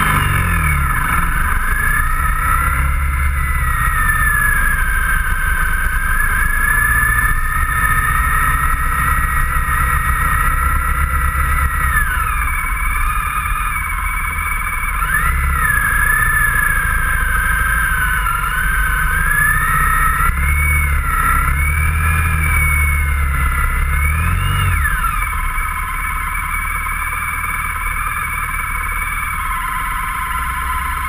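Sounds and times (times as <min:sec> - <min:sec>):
motorcycle engine hum with whine: 0:00.0 - 0:31.0.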